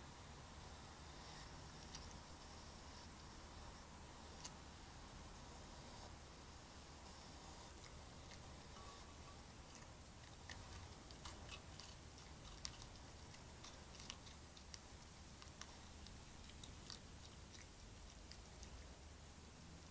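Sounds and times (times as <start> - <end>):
background hiss: 0.0 - 19.9
animals chewing food: 0.7 - 19.5.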